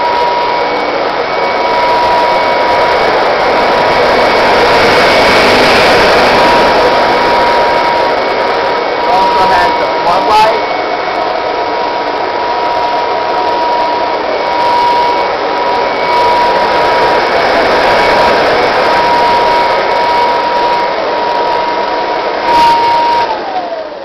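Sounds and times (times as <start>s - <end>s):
vacuum cleaner motor whine: 0.0s - 24.0s.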